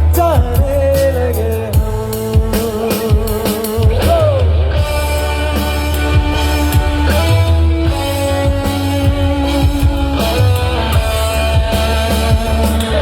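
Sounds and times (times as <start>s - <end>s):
bass guitar: 0.0s - 13.0s
steady drum beat: 0.0s - 13.0s
held guitar notes: 1.7s - 13.0s.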